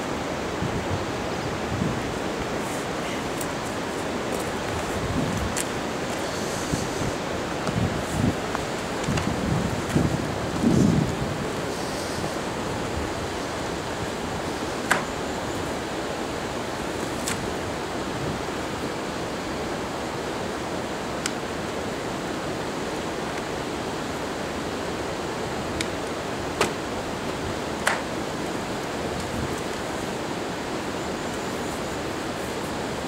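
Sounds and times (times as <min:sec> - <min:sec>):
steady rushing noise: 0:00.0 - 0:33.0.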